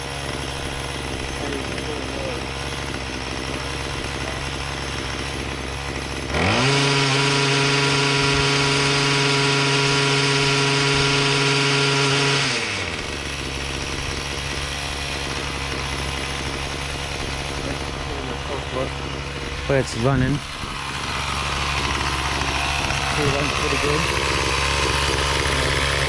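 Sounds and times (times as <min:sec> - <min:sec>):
small tiller engine: 0:00.0 - 0:26.0.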